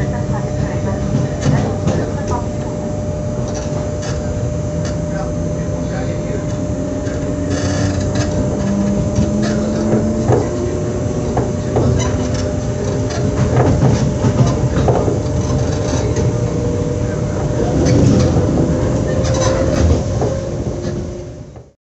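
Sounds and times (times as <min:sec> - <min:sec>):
electric train humming: 0:00.0 - 0:21.8.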